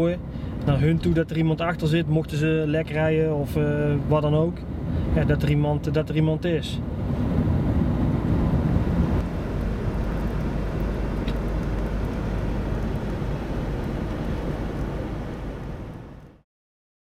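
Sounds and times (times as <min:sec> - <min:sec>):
car road noise: 0:00.0 - 0:16.4.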